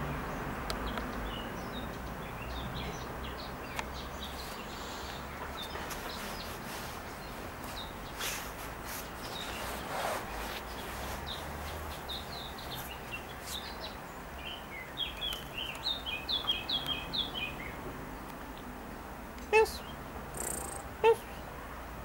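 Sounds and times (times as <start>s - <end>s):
outdoor background hum: 0.0s - 22.0s
small bird chirping: 0.8s - 17.8s, 19.5s - 21.4s.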